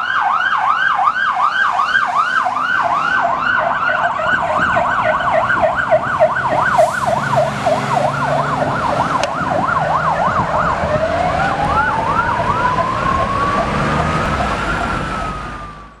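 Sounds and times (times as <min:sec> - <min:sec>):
siren slow wail: 0:00.0 - 0:16.0
siren sweeping up and down: 0:00.0 - 0:16.0
traffic rumble: 0:00.0 - 0:16.0
truck engines rumbling: 0:00.0 - 0:16.0.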